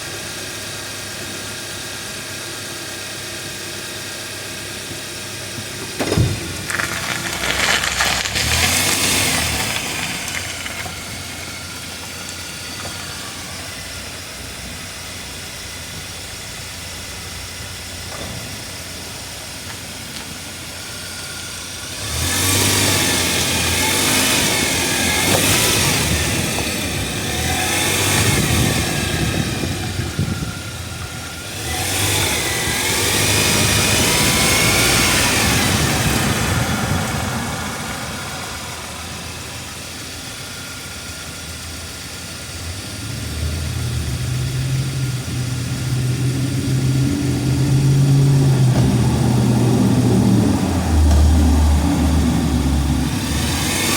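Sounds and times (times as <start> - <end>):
car engine from inside cabin: 0.0 - 53.9
road noise: 0.0 - 53.9.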